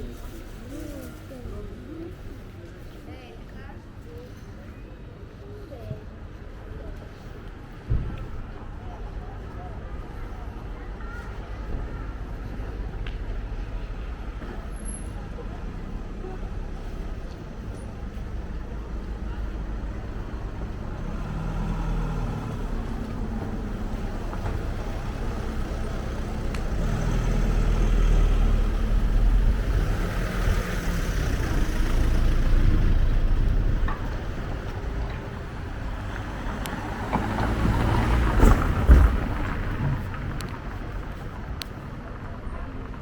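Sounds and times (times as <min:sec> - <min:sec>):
vehicles passing: 0:00.0 - 0:43.0.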